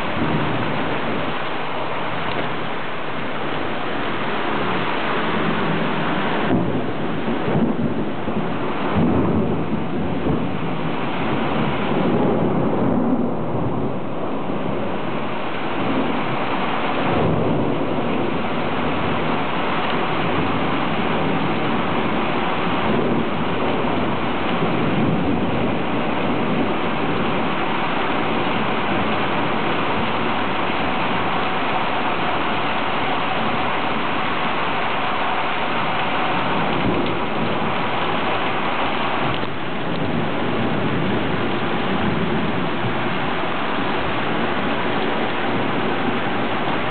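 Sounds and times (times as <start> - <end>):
heavy rain: 0.0 - 46.9
low rumbles of thunder: 0.0 - 46.9.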